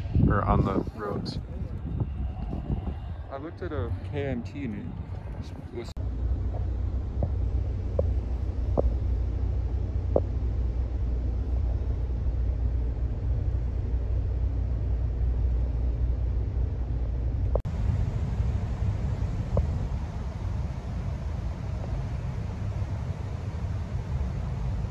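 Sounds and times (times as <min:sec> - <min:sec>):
vehicle interior rumble: 0:00.0 - 0:24.9.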